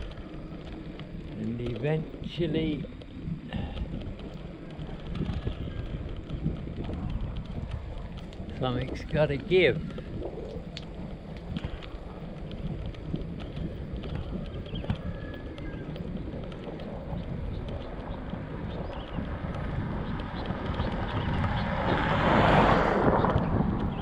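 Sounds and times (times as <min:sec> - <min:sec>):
bike clicks and rattles: 0:00.0 - 0:24.0
wind rumbling on microphone: 0:00.0 - 0:24.0.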